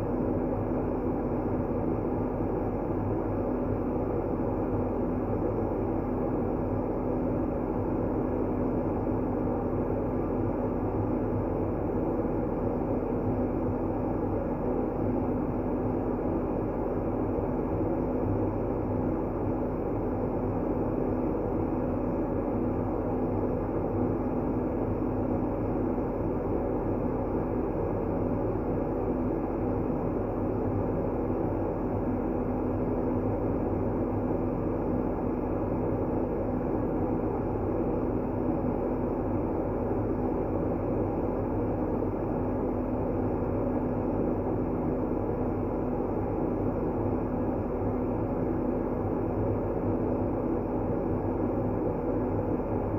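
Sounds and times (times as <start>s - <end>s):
faint steady hum: 0.0s - 52.9s.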